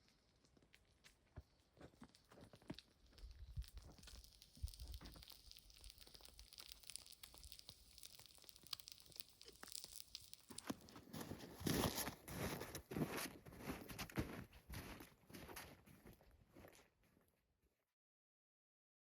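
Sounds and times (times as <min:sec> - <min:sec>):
crackling and crunching: 0:00.0 - 0:17.0.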